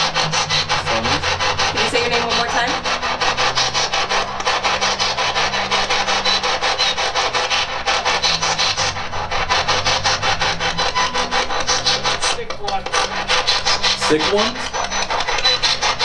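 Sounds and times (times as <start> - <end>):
chopping radio static: 0.0 - 16.0.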